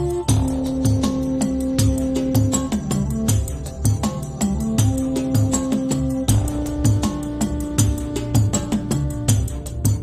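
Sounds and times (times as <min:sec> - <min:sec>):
steady percussion beat: 0:00.0 - 0:10.0
sustained bass notes: 0:00.0 - 0:10.0.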